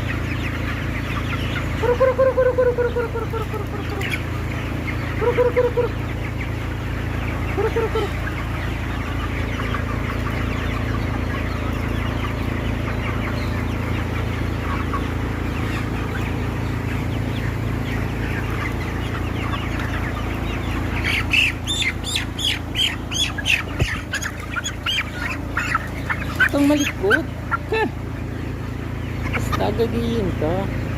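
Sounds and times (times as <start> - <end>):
chickens clucking and chattering: 0.0 - 30.9
sharp bird calls: 0.0 - 30.9
ventilation hum: 0.0 - 30.9.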